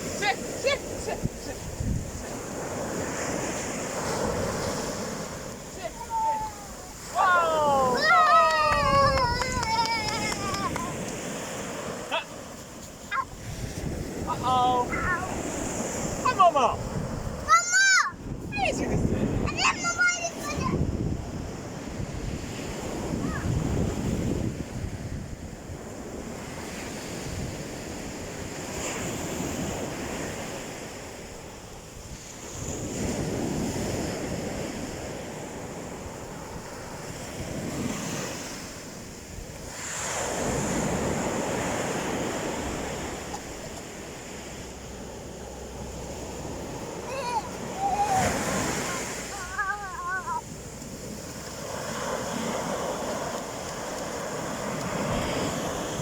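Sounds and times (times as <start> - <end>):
sea waves breaking on shore: 0.0 - 56.0
wind on microphone: 0.0 - 56.0.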